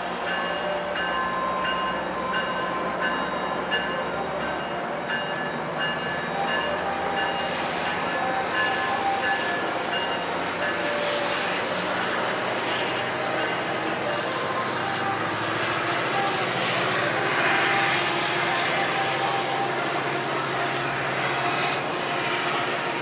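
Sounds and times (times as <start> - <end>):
diesel engine drone: 0.0 - 23.0
train wheel noise: 0.0 - 23.0.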